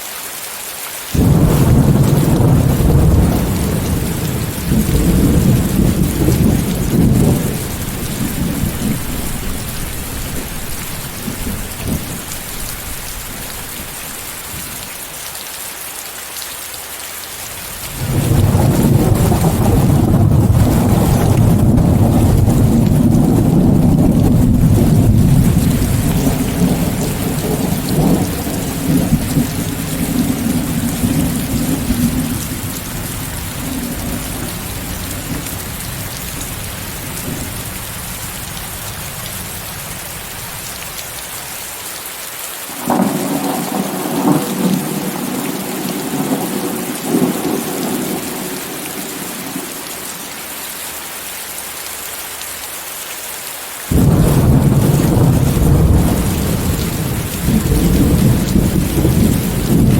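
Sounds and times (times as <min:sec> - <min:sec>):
heavy rain hissing: 0:00.0 - 0:59.9
thunder rumbling: 0:01.2 - 0:15.0, 0:17.8 - 0:41.0, 0:42.7 - 0:50.2, 0:53.9 - 0:59.9.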